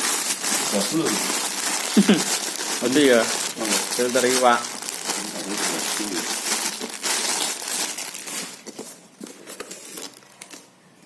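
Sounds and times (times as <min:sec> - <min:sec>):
packaging crinkling and rustling: 0:00.0 - 0:10.7.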